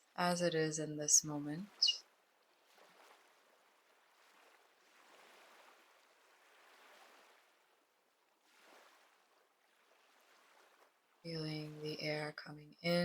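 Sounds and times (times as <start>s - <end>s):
faint ocean surf: 0.0s - 13.0s.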